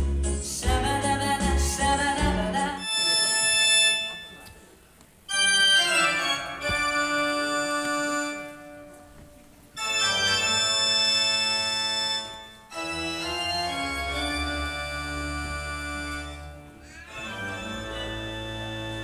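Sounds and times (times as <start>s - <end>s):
organ-like keyboard chords: 2.2s - 19.0s.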